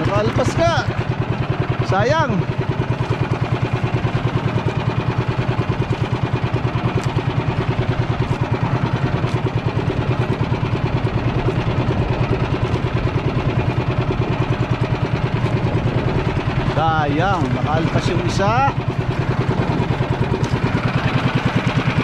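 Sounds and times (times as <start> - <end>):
small boat engine chugging: 0.0 - 22.0.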